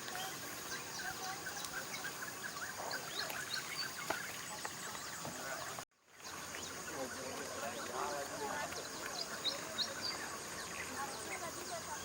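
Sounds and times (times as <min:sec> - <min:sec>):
birds chirping: 0:00.0 - 0:12.0
steady high hiss: 0:00.0 - 0:12.0.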